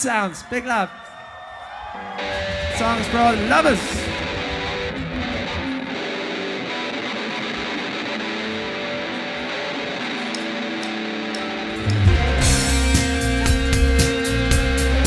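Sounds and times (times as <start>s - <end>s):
electric guitar strumming chords: 2.2s - 15.0s.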